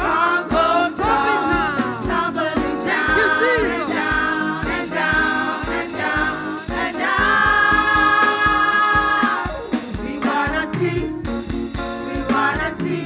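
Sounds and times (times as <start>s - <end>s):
band playing steady beat: 0.0s - 13.0s
gospel singing voices: 0.0s - 13.0s.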